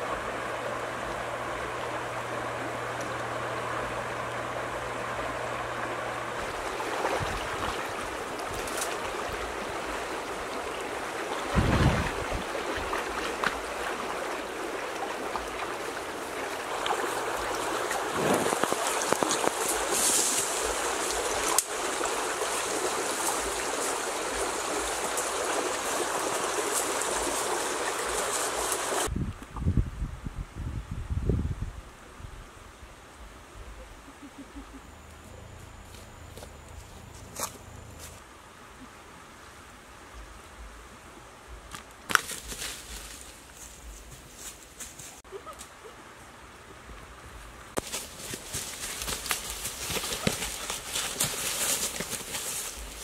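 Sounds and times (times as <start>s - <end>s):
shallow stream running: 0.0s - 29.1s, 36.7s - 53.0s.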